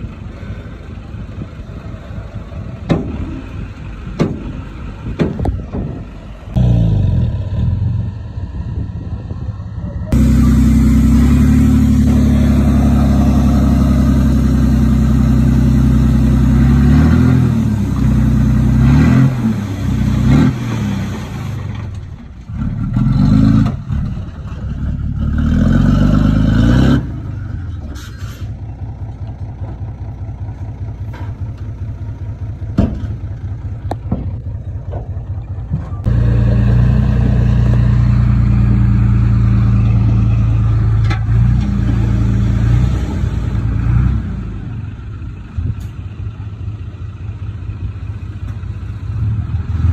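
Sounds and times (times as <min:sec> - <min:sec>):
heavy machine engine under load: 0:00.0 - 0:49.9.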